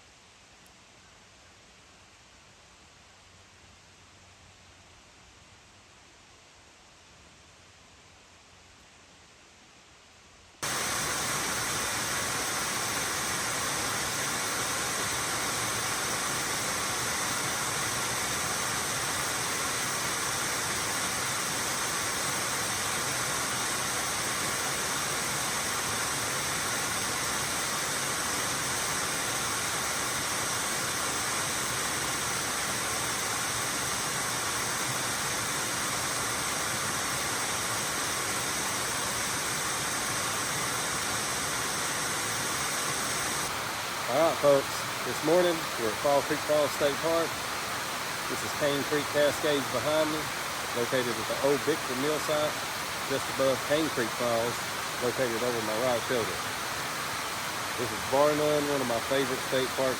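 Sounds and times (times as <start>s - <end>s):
water pouring over cascade: 10.6s - 59.9s.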